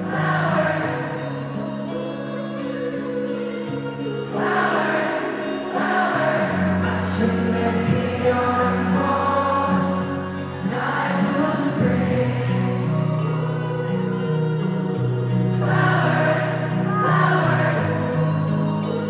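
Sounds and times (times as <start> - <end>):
person singing pop ballad: 0.0 - 19.0.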